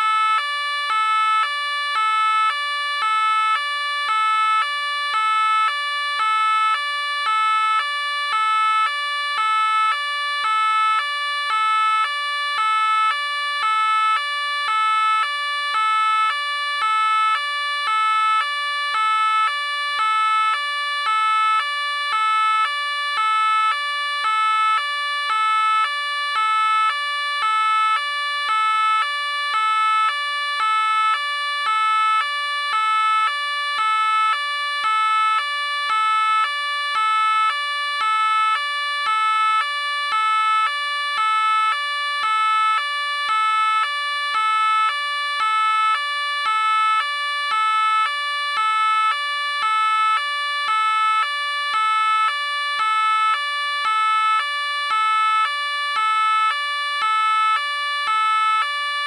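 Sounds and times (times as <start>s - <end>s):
two-tone police siren: 0.0s - 59.0s.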